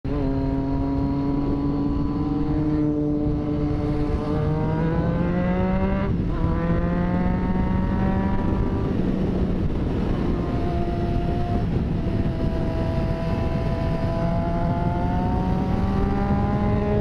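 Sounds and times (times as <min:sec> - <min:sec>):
motorcycle engine: 0:00.1 - 0:17.0
wind rush: 0:00.1 - 0:17.0.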